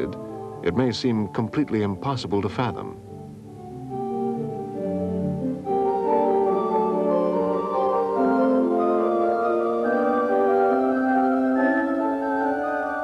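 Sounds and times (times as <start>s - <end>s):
instrumental music of held chords: 0.0s - 13.0s.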